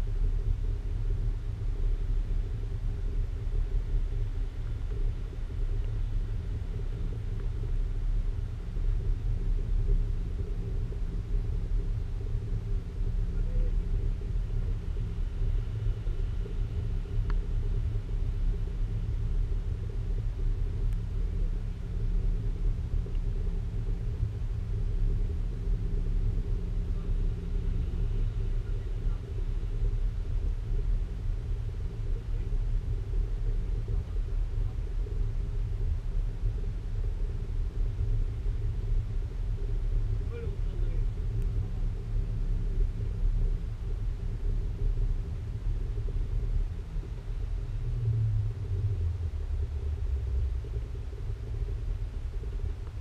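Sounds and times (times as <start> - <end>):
cable car rumble: 0.0 - 53.0
faint hum: 0.0 - 53.0.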